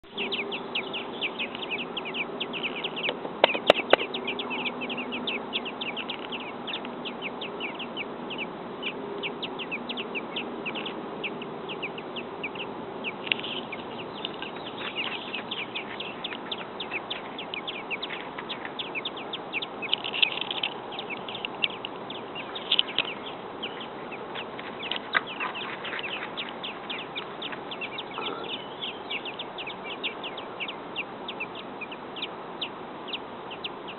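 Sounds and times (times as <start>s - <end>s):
nestlings peeping: 0.0s - 33.9s.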